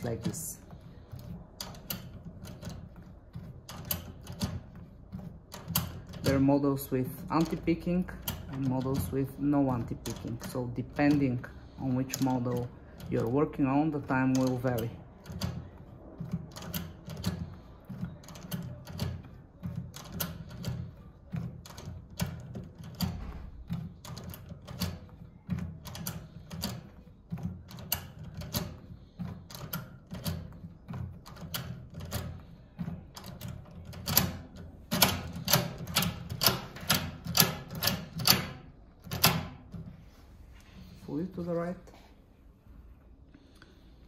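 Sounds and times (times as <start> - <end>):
rapid clicking of lock pick tool: 1.0 - 6.4, 7.3 - 39.8.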